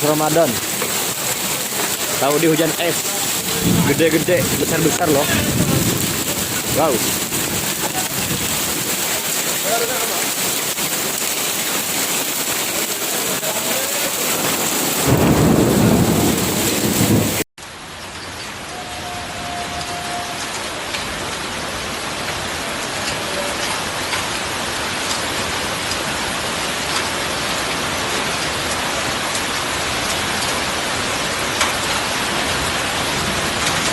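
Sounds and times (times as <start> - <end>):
hailstones ticking: 0.0 - 18.8, 19.7 - 33.9
heavy rain and hail: 0.0 - 33.9.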